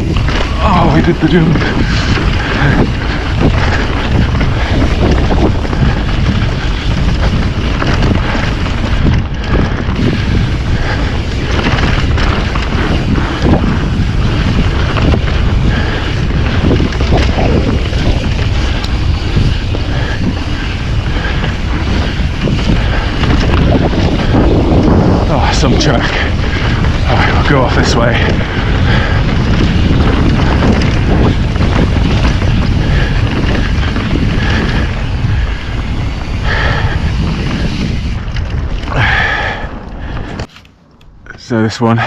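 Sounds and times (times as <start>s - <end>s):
bike knocks and rattles: 0.0s - 39.1s
bike tyre roar: 0.0s - 42.0s
wind rushing over microphone: 0.0s - 42.0s.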